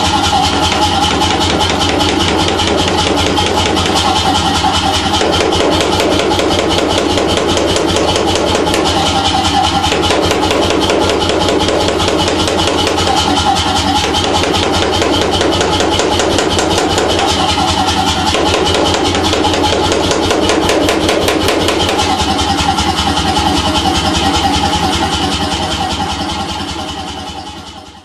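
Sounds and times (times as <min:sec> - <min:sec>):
power hammer striking hot metal: 0:00.0 - 0:27.4.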